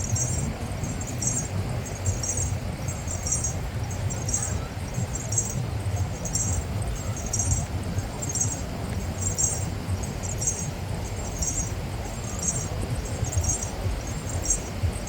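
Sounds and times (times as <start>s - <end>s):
faint high squeaky chirp: 0.0s - 15.0s
wind rumbling on microphone: 0.0s - 15.0s.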